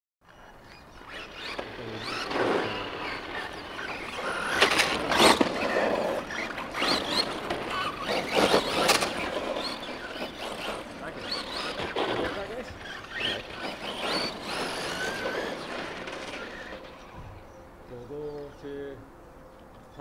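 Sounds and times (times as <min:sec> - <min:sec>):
electric motors whining: 0:00.3 - 0:20.0
tyre noise on tarmac: 0:01.0 - 0:17.5.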